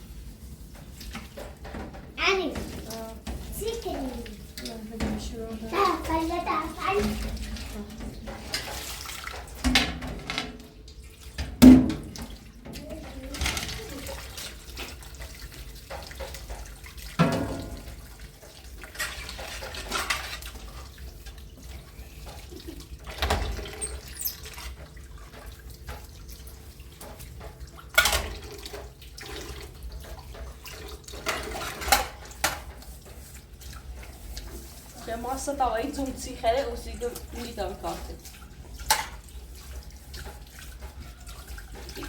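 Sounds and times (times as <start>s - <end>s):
water running and splashing: 0.0s - 42.0s.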